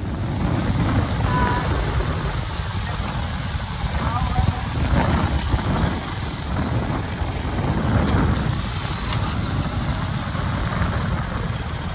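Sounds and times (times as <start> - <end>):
motorbike engine rumble: 0.0 - 11.9
wind buffeting microphone: 0.0 - 11.9.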